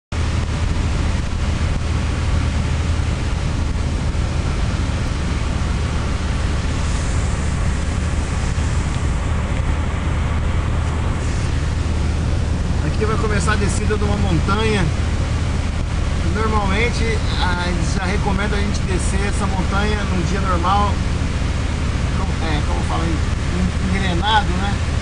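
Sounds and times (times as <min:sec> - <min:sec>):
car engine and tyres rumbling: 0:00.1 - 0:25.0
wet road hiss: 0:00.2 - 0:25.0.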